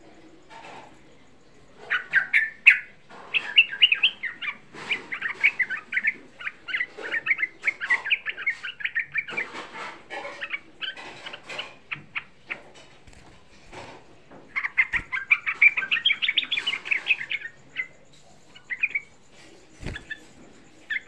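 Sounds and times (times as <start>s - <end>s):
bulbul singing: 1.5s - 9.5s, 10.2s - 21.0s.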